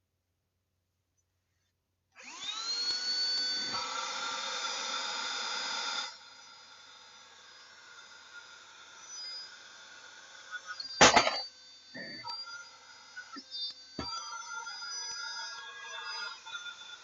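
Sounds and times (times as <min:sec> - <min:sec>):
handheld vacuum cleaner whine: 0:02.2 - 0:17.0.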